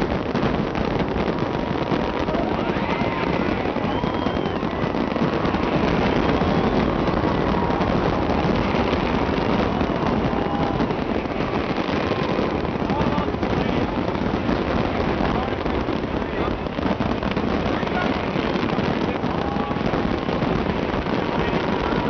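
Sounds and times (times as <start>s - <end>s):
crowd voices: 0.0s - 22.0s
fireworks popping and crackling: 0.0s - 22.0s.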